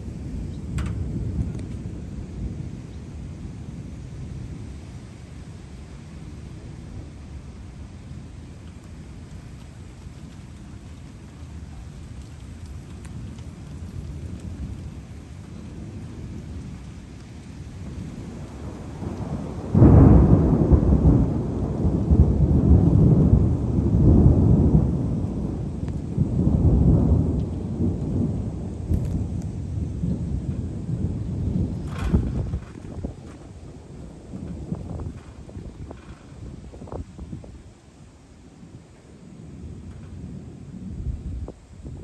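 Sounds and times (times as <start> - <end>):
thunder clap: 0.0 - 2.9, 8.7 - 37.6, 39.5 - 42.0
thunder rumbling: 0.0 - 42.0.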